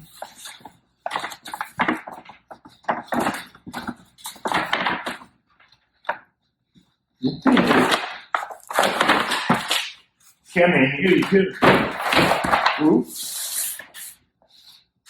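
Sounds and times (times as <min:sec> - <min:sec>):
packaging rustling and scraping: 0:00.0 - 0:06.2, 0:07.5 - 0:10.5, 0:11.1 - 0:14.2.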